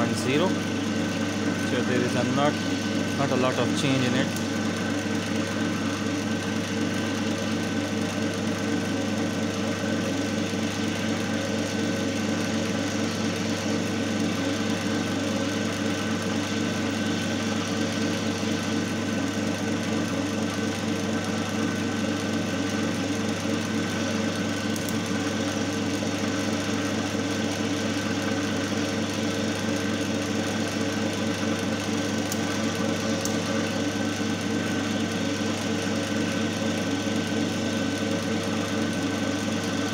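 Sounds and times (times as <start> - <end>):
electric motor humming: 0.0 - 39.9
mechanical whir of turning shaft: 0.0 - 39.9.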